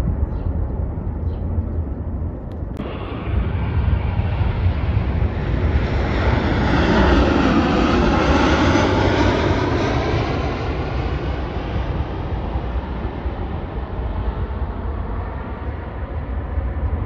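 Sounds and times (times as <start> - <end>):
airplane passing overhead: 0.0 - 17.0
steady low rumble: 0.0 - 17.0.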